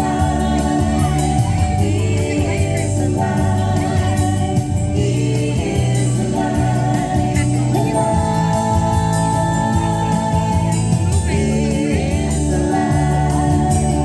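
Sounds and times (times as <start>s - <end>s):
children's song with singing voices: 0.0s - 14.0s.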